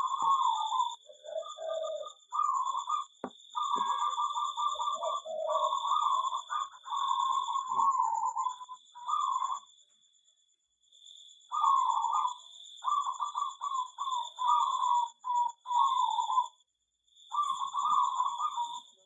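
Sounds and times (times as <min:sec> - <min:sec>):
doves cooing: 0:00.0 - 0:09.6, 0:11.5 - 0:16.5, 0:17.3 - 0:19.0.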